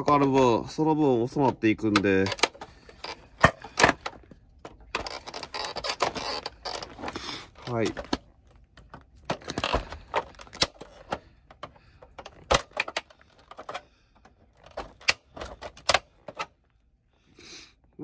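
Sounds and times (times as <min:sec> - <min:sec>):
plastic casing clicking and snapping: 0:01.4 - 0:16.6.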